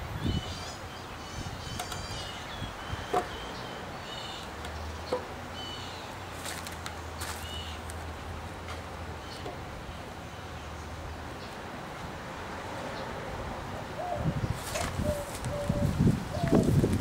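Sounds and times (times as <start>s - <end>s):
birds chirping: 0.0s - 11.6s, 13.8s - 17.0s.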